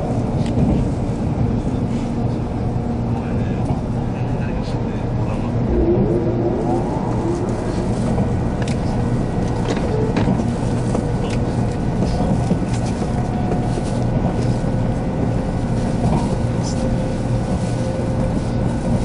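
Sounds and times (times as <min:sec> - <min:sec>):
train cabin rumble: 0:00.0 - 0:19.0.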